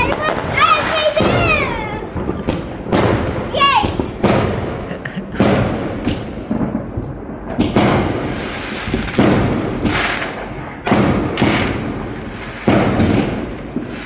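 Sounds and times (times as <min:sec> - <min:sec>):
fireworks bangs: 0:00.0 - 0:14.0
small firework pops: 0:00.0 - 0:14.0.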